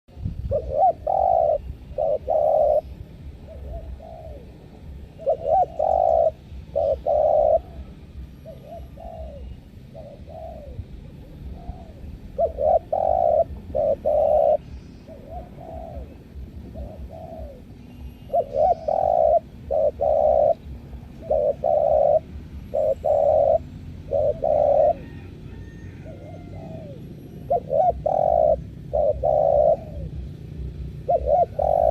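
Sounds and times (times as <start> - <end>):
low background rumble: 0.1 - 31.9
dove cooing: 0.4 - 31.9.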